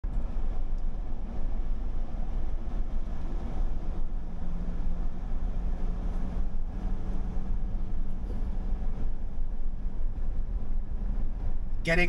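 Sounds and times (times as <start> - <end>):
truck cab road rumble: 0.0 - 12.0.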